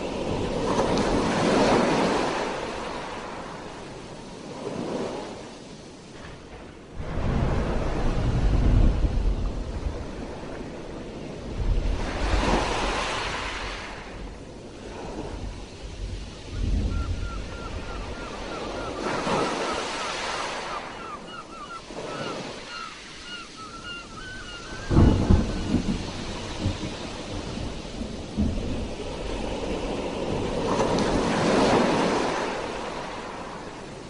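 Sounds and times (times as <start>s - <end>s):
sea waves washing ashore: 0.0s - 34.0s.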